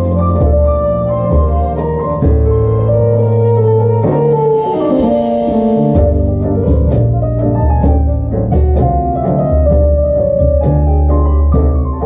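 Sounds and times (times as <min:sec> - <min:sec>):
double bass: 0:00.0 - 0:12.0
drums: 0:00.0 - 0:12.0.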